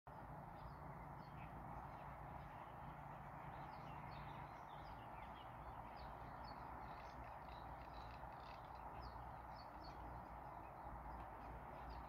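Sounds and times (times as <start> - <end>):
distant small birds chirping: 0.1 - 12.0.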